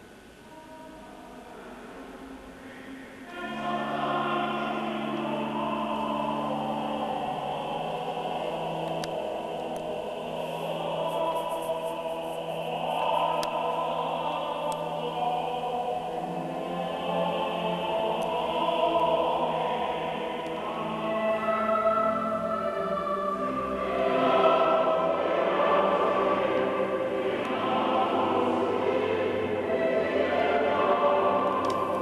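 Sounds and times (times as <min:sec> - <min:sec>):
choir singing held notes: 0:00.0 - 0:32.0.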